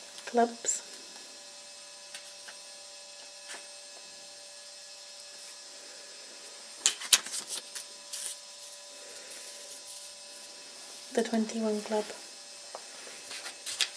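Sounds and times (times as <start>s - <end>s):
steady electrical hum: 0.0s - 13.9s.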